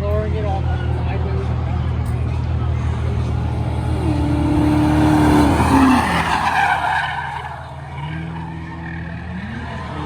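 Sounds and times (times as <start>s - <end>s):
racing car engines: 0.0s - 10.0s
tires squealing: 0.5s - 10.0s.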